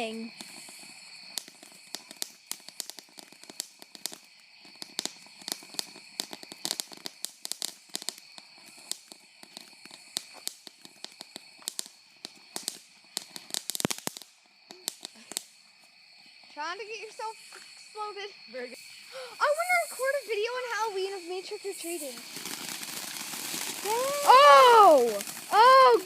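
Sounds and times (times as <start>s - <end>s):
fireworks cracking and crackling: 0.0s - 26.0s.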